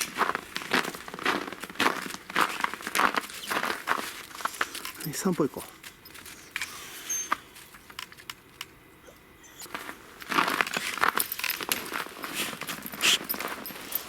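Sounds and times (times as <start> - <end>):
footsteps crunching in snow: 0.0 - 7.8, 9.7 - 14.0.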